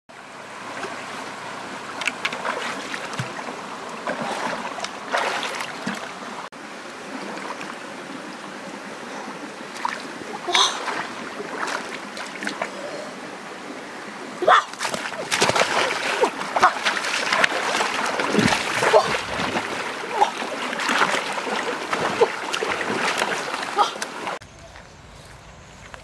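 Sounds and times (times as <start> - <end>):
stream water rushing: 0.1 - 24.4.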